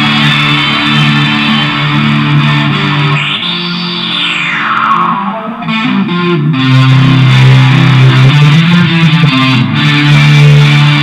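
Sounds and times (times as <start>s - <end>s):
electric guitar: 0.0s - 11.0s
sustained bass notes: 0.0s - 11.0s.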